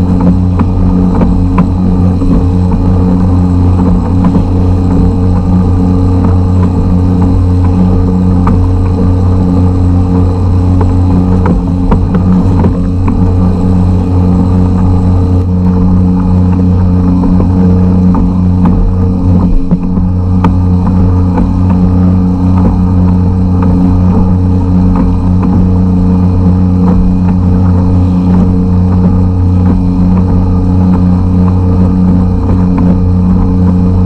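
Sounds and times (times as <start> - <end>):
two-stroke outboard engine running: 0.0 - 34.0.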